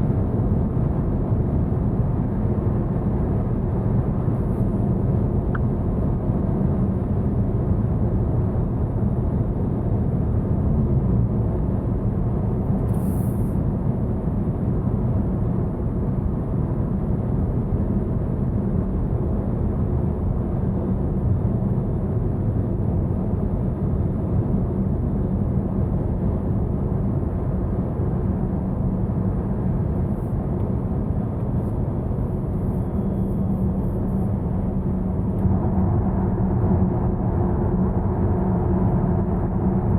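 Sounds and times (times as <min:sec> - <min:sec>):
road and tyre noise in car: 0:00.0 - 0:39.9.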